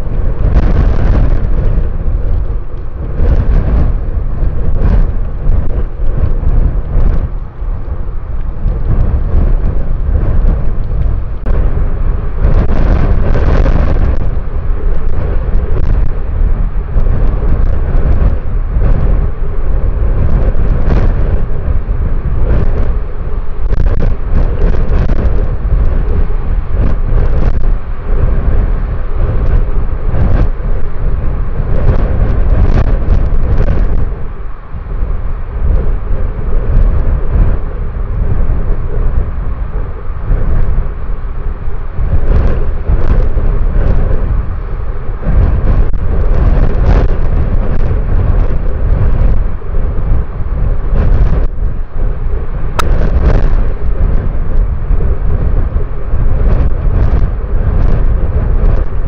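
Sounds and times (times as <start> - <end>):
strong wind buffeting microphone: 0.0 - 59.0.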